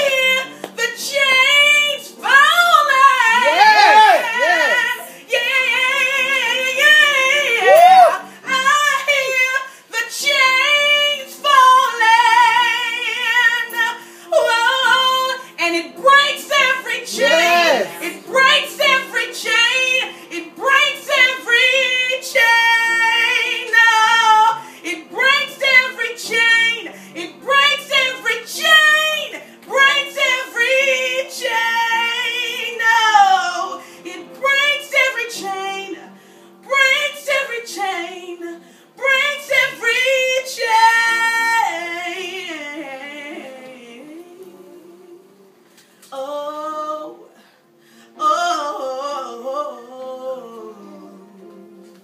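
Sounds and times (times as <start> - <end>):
woman singing gospel song: 0.0 - 52.0.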